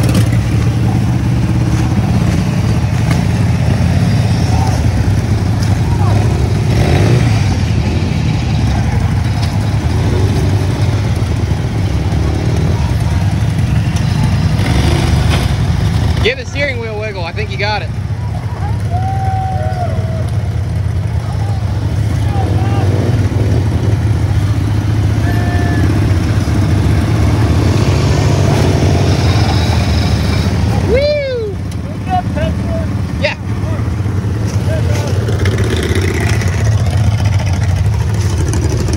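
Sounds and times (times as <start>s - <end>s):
riding lawn mower engine: 0.0s - 38.9s.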